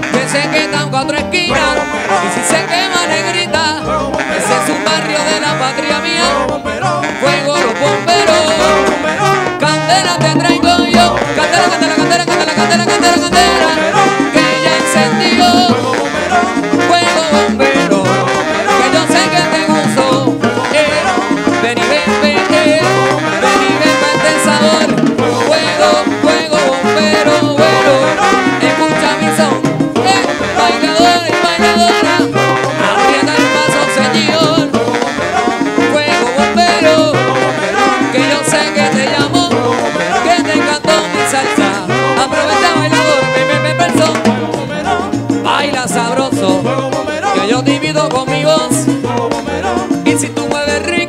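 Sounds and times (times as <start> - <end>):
person singing: 0.0 - 51.0
salsa band music: 0.0 - 51.0.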